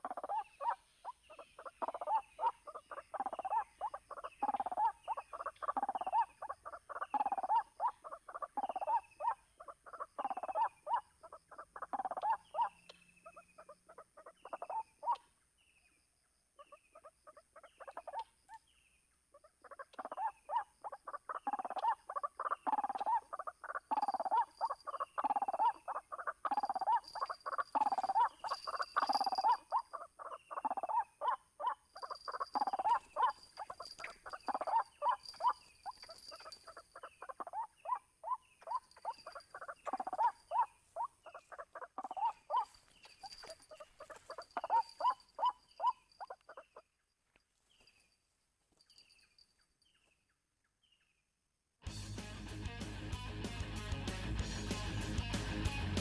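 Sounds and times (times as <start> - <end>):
bird harsh repeated calls: 0.0 - 15.4, 16.6 - 47.0.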